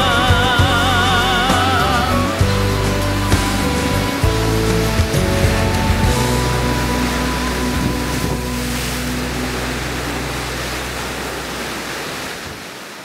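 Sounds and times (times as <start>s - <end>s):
surf breaking over rocks: 0.0s - 13.0s
wind: 0.0s - 13.0s.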